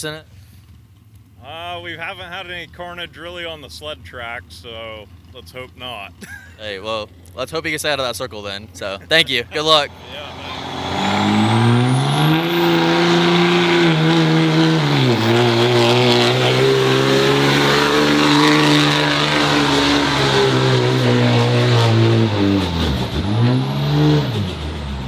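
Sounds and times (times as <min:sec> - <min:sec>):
diesel truck engine revving: 0:00.0 - 0:25.0.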